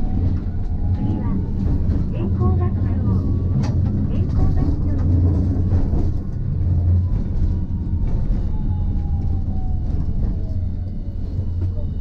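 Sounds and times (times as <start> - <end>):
tram rumbling on track: 0.0 - 12.0.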